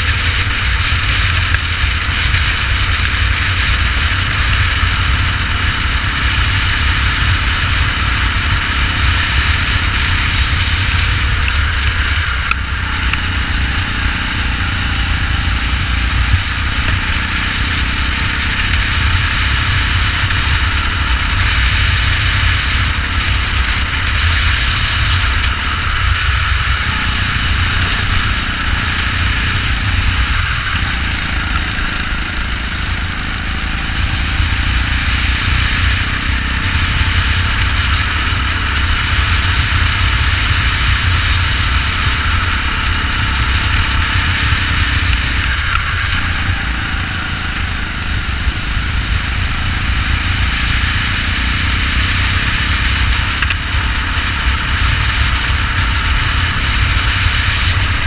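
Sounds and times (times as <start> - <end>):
go-kart engine racing: 0.0 - 58.0.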